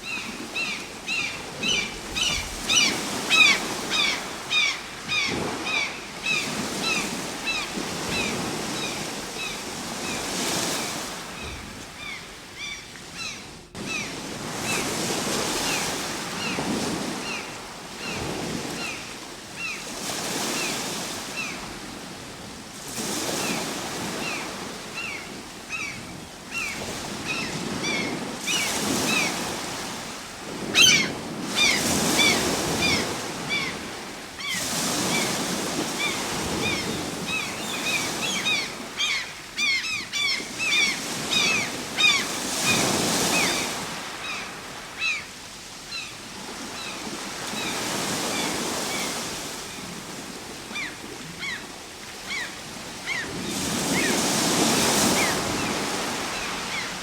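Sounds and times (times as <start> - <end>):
ocean waves breaking: 0.0 - 45.2, 46.2 - 57.0.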